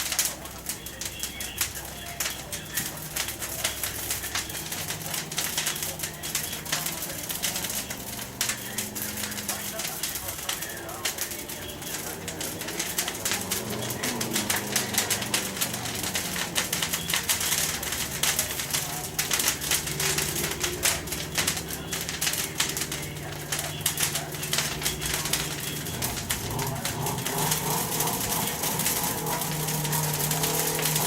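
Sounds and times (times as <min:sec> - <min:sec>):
bonfire crackling and popping: 0:00.0 - 0:31.0
steady low hum: 0:00.0 - 0:31.0.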